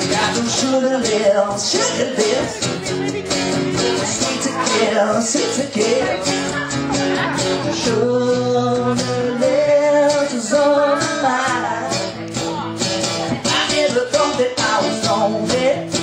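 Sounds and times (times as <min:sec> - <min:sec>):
man singing: 0:00.0 - 0:16.0
strummed acoustic guitar: 0:00.0 - 0:16.0.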